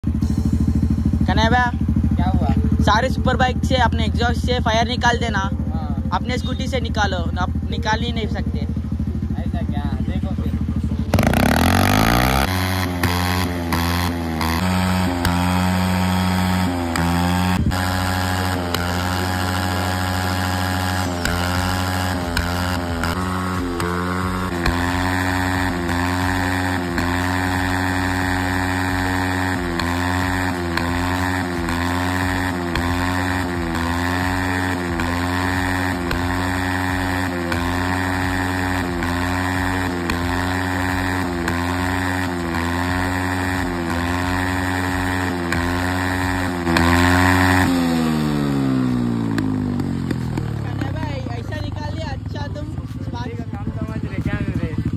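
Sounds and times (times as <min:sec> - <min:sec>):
scooter engine revving: 0:00.0 - 0:54.9.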